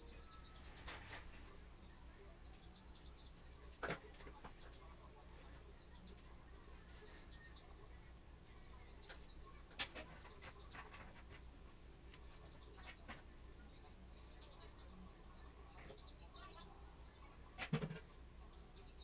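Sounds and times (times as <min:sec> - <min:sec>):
faint high-pitched chirping: 0:00.0 - 0:19.0.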